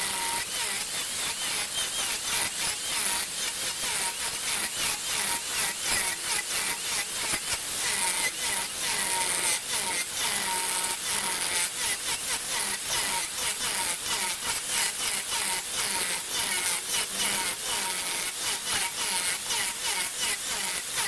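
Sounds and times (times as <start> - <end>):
lathe tool rasping on spinning wood: 0.0 - 21.0.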